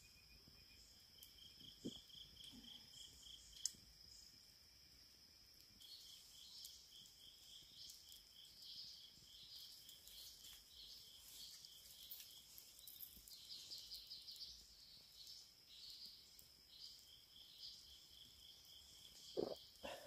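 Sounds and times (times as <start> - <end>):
insects buzzing and chirping: 0.0 - 20.0
campfire crackling: 0.2 - 20.0.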